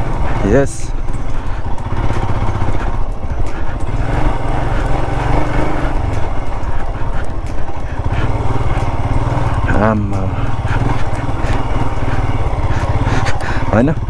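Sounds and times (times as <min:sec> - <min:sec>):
motorcycle engine pulsing: 0:00.0 - 0:14.0.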